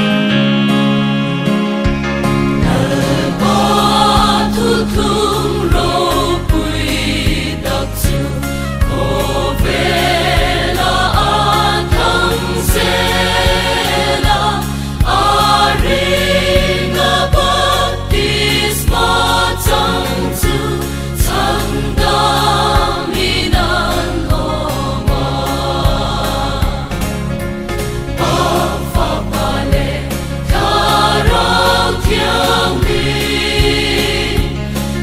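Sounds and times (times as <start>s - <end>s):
christian song with singing voices: 2.5s - 35.0s.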